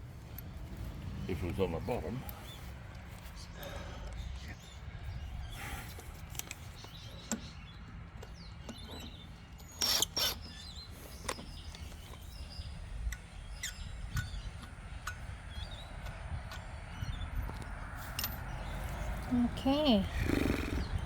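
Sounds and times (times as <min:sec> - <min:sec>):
birds chirping faintly: 0:00.0 - 0:21.0.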